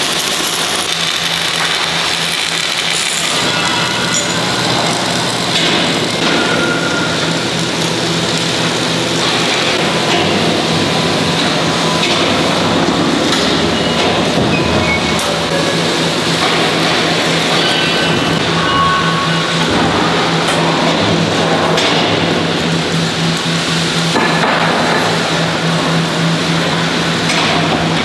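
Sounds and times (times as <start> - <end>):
crane chains hoisting bucket: 0.0 - 28.0
steady machine hum: 0.0 - 28.0
welding arc crackling: 0.0 - 28.0.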